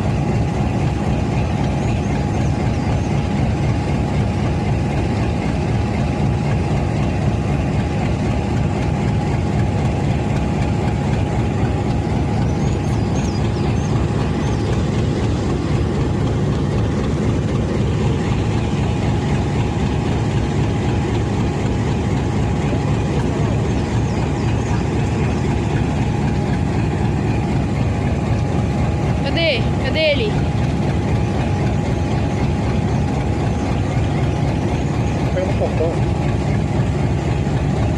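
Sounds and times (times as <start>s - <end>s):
diesel engine idling: 0.0s - 37.9s
steady whine: 0.0s - 37.9s.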